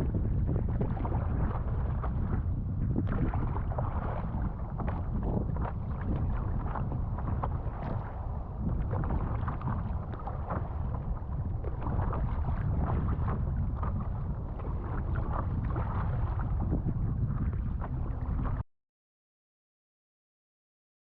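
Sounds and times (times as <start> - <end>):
choppy water splashing: 0.0 - 18.6
wind buffeting microphone: 0.0 - 18.6.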